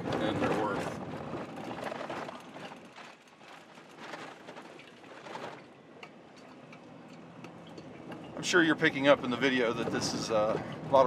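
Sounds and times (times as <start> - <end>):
vehicle rattling over dirt road: 0.0 - 11.0.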